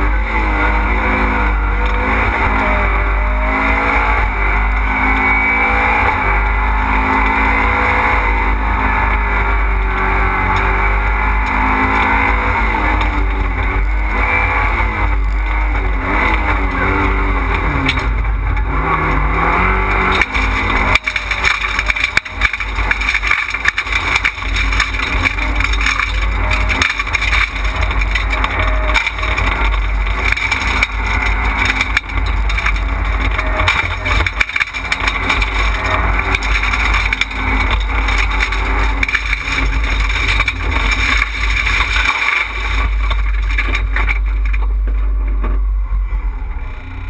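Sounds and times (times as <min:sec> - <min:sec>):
rally car engine: 0:00.0 - 0:47.0.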